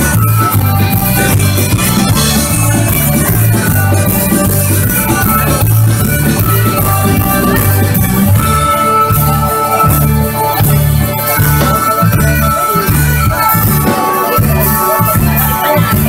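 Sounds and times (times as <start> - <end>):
folk band playing live: 0.0 - 16.0.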